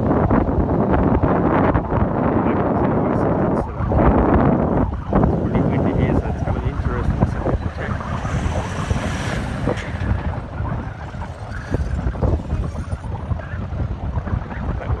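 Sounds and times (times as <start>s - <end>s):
wind buffeting microphone: 0.0s - 15.0s
engine straining: 2.8s - 15.0s.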